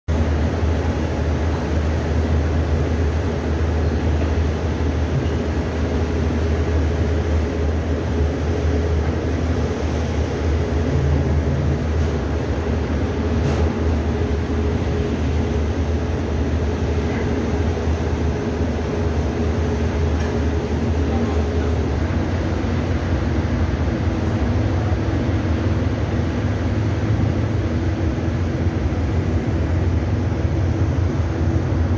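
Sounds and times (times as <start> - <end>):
boat engines droning: 0.1 - 31.9.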